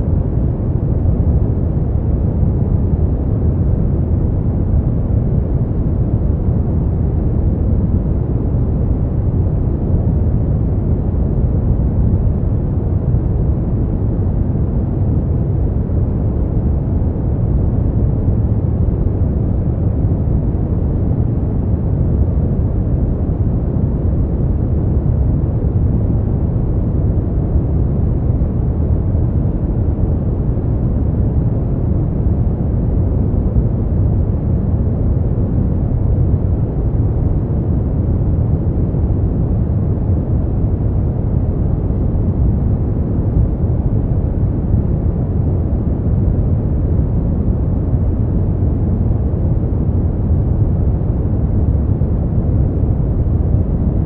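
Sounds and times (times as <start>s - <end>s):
deep rumbling noise: 0.0s - 54.0s.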